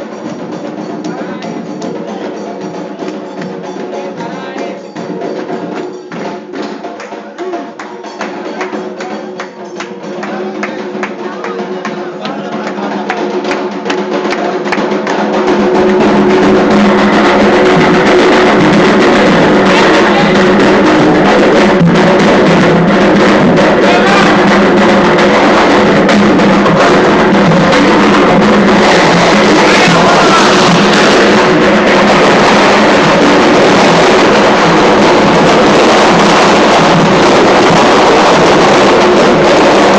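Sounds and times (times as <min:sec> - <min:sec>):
ceremonial drumming and percussion: 0:00.0 - 0:39.9.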